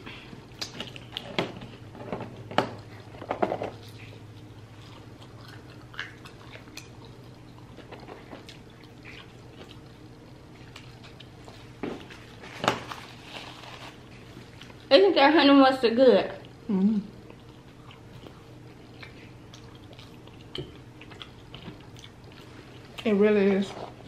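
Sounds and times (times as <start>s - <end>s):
low steady hum: 0.0s - 24.0s
chewing and mouth sounds: 0.1s - 1.7s, 2.8s - 14.9s, 16.4s - 24.0s.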